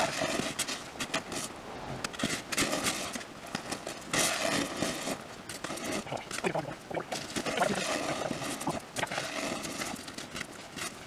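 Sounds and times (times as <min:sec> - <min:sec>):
snow shovels scraping snow: 0:00.0 - 0:06.6, 0:07.2 - 0:11.0.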